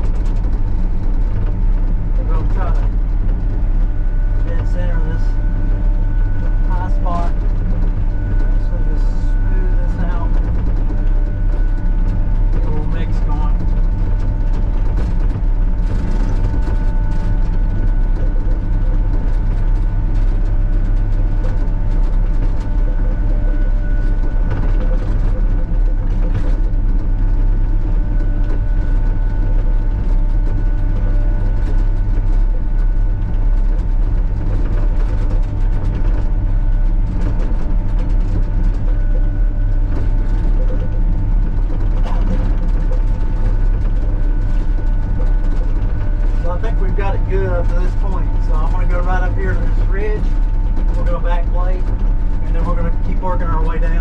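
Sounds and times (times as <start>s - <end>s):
diesel engine running under load: 0.0s - 54.0s
high whine: 0.0s - 54.0s.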